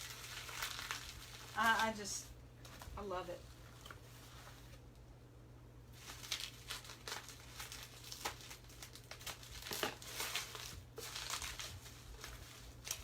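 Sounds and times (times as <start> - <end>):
packing paper crinkling: 0.0 - 4.9, 5.9 - 13.0.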